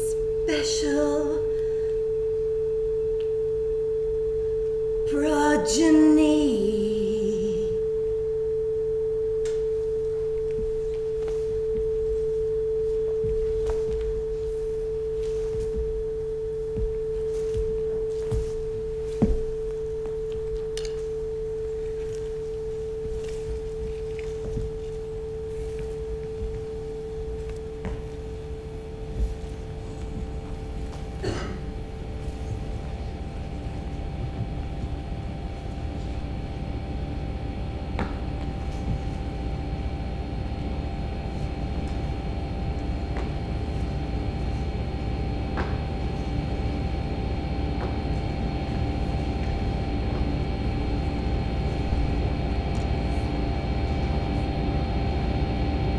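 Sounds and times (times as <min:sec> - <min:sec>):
low drone: 0:00.0 - 0:55.9
pure steady tone: 0:00.0 - 0:55.9.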